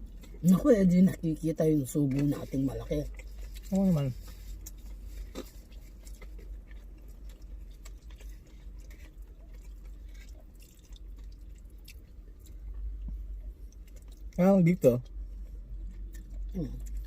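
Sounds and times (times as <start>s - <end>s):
people chewing food: 0.0s - 17.0s
steady low hum: 0.0s - 17.0s.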